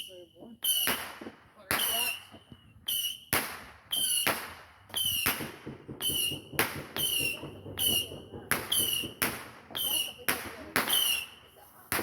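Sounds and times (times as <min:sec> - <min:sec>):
firework pops with whistles: 0:00.0 - 0:12.0.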